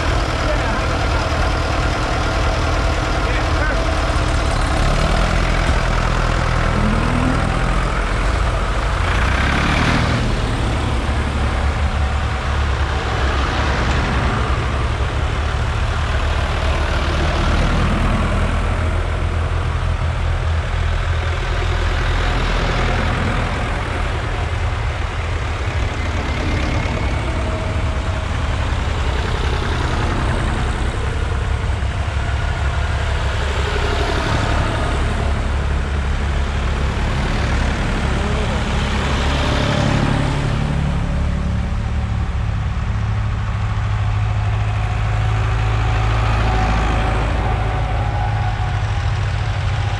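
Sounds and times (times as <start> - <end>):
tractors driving past: 0.0 - 49.9.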